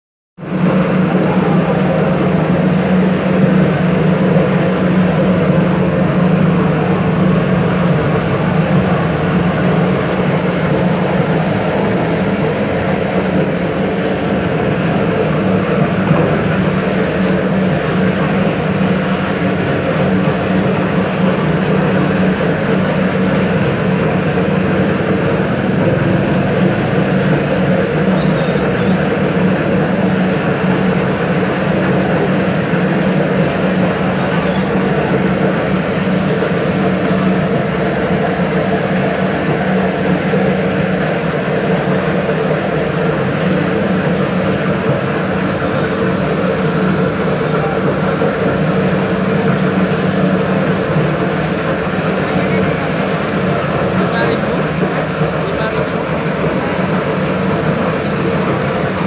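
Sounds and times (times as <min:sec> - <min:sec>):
gas burner hum: 0:00.4 - 0:59.0.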